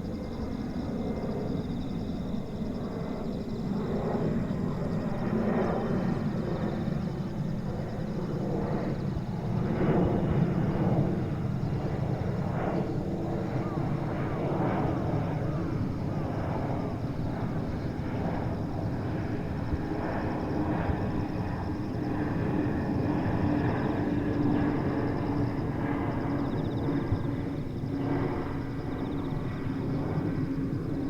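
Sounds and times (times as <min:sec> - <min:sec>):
jet airliner passing overhead: 0:00.0 - 0:31.0.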